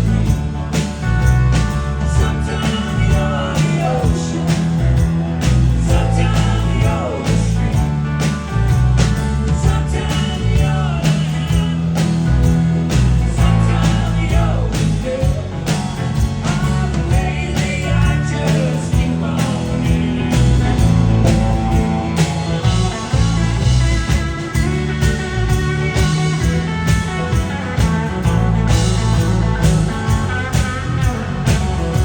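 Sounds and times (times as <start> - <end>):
rock band playing live: 0.0 - 32.0.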